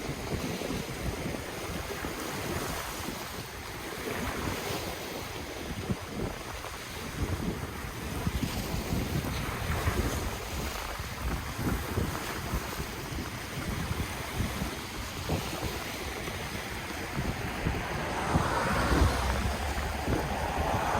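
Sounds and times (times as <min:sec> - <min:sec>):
ocean waves washing on shore: 0:00.0 - 0:20.9
wind buffeting microphone: 0:00.0 - 0:20.9.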